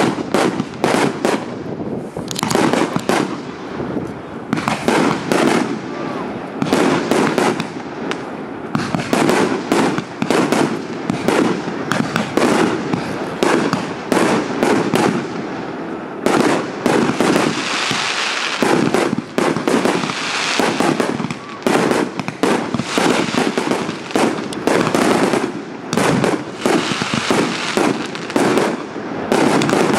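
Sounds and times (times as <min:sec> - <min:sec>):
fireworks bursting: 0:00.0 - 0:29.9
fireworks crackle: 0:00.0 - 0:29.9.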